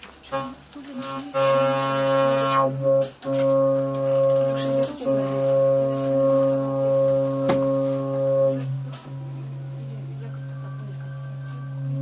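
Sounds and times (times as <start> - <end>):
analog synthesizer held notes: 0.3 - 12.0.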